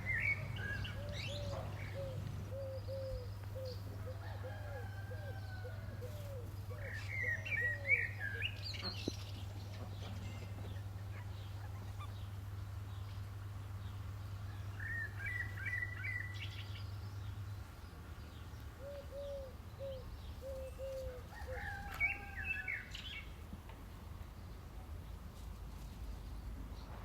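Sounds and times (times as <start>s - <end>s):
small birds chirping: 0.0s - 4.3s, 6.0s - 23.4s.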